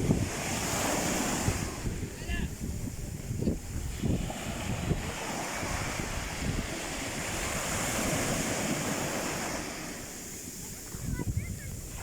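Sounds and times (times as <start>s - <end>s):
sea waves washing on shore: 0.0s - 12.0s
wind buffeting microphone: 0.0s - 12.0s.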